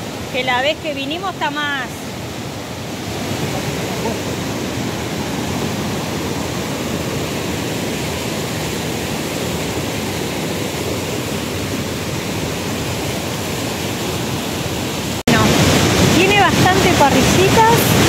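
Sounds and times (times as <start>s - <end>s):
river rushing over rapids: 0.0s - 18.0s.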